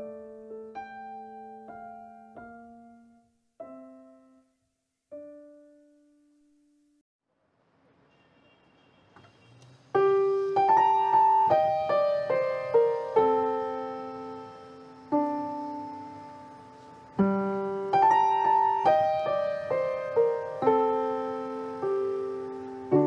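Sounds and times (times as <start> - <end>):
solo piano music: 0.0 - 7.0, 9.9 - 23.0.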